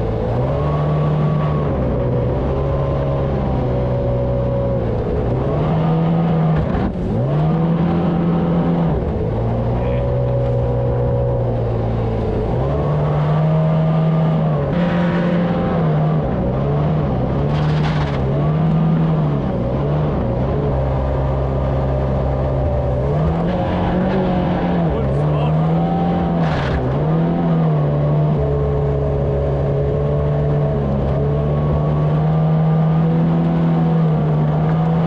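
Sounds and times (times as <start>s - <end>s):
jet boat engine running: 0.0s - 35.0s.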